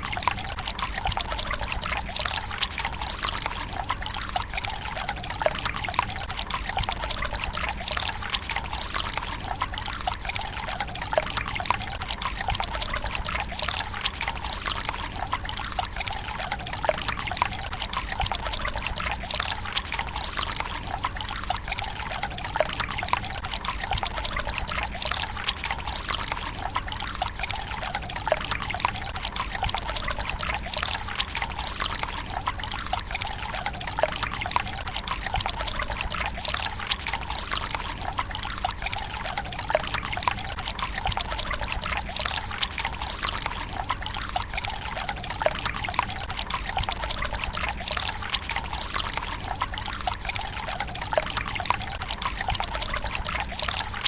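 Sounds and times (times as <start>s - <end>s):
water trickling into stone basin: 0.0s - 54.0s.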